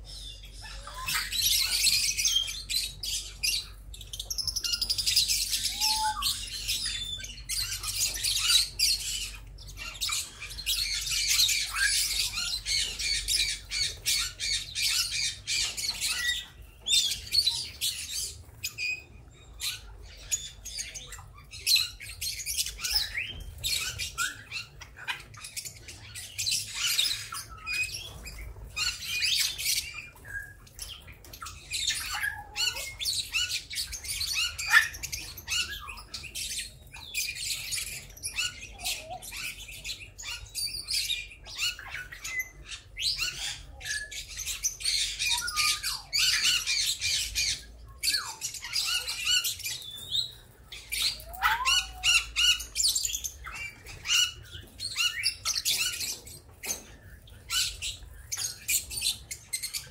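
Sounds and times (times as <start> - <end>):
parrots chirping and squawking: 0.0 - 59.9.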